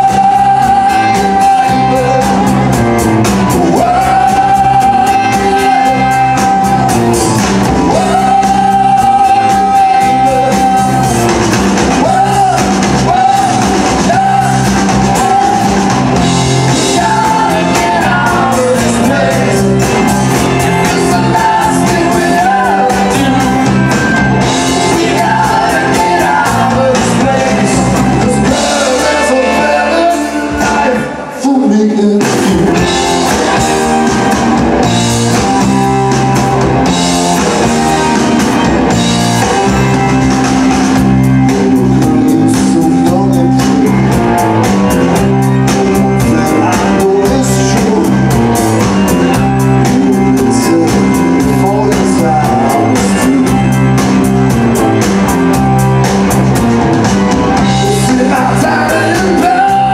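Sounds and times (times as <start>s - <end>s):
man singing lead vocal: 0.0s - 34.0s, 41.0s - 54.2s, 57.6s - 59.9s
live rock band playing: 0.0s - 59.9s.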